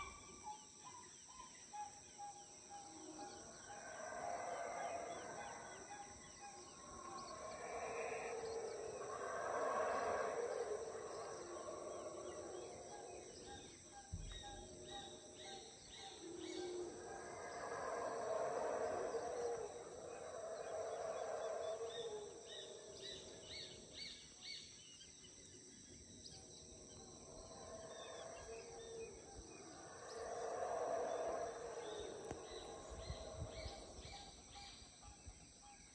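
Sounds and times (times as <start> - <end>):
high insect drone: 0.0 - 35.9
howler monkeys roaring: 2.6 - 34.8.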